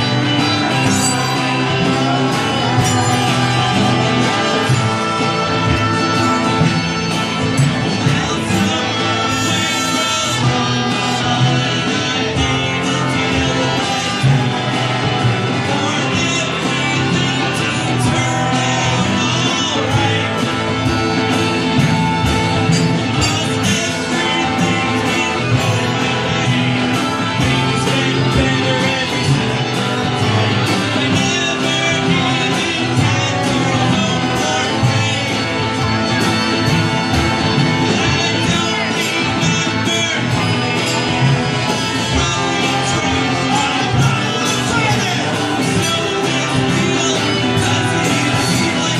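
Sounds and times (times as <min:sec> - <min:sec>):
drums: 0:00.0 - 0:48.9
electric guitars: 0:00.0 - 0:48.9
live rock band playing: 0:00.0 - 0:48.9
person singing: 0:00.0 - 0:48.9.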